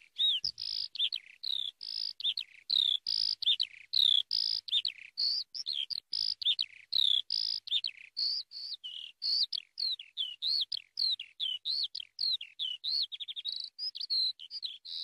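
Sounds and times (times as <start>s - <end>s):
skylark singing: 0.0s - 15.0s.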